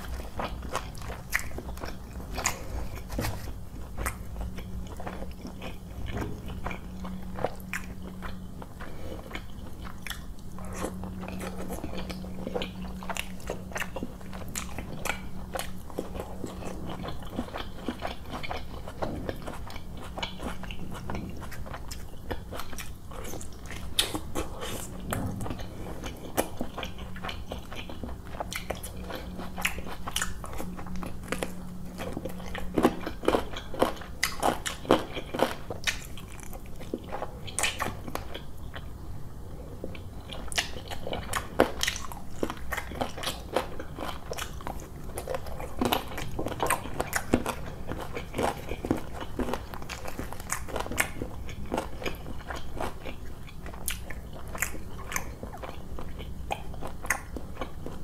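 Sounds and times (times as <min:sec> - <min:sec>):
man chewing and biting: 0:00.0 - 0:38.9, 0:39.8 - 0:58.0.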